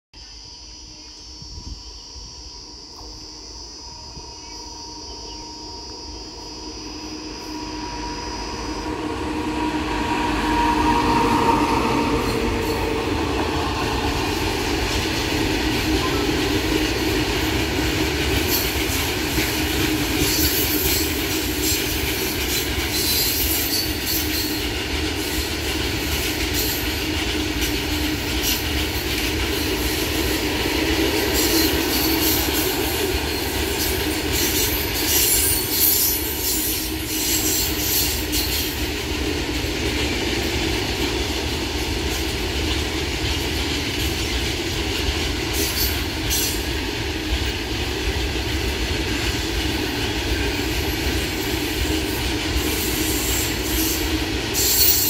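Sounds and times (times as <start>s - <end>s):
freight train rumbling past: 2.7s - 55.0s.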